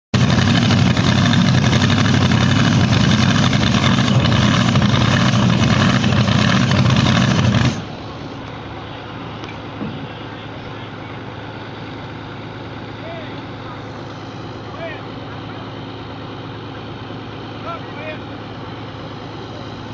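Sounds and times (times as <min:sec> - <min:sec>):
truck engine under full throttle: 0:00.0 - 0:19.9.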